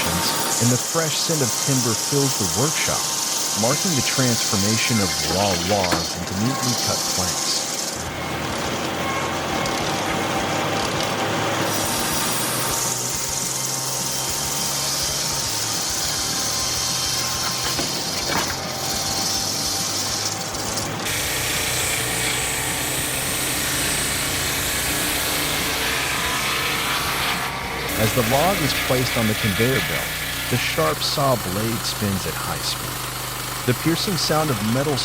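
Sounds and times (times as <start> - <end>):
saw blades cutting logs: 0.0 - 35.0
steady machine hum: 0.0 - 35.0.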